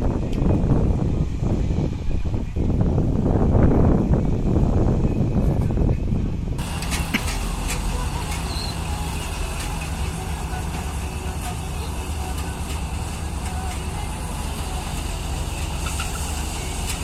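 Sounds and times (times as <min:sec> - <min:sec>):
farm machinery engine humming: 0:00.0 - 0:17.0.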